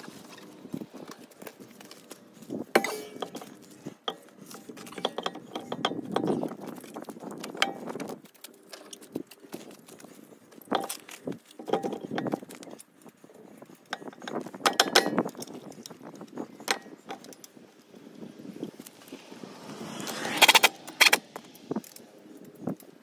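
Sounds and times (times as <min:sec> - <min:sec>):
metal lug nuts clinking: 0:00.3 - 0:18.8.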